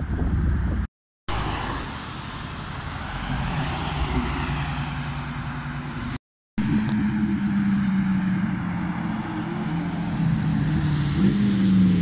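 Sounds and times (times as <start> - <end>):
tyre and road noise: 0.0 - 12.0
car engine driving away: 1.3 - 12.0.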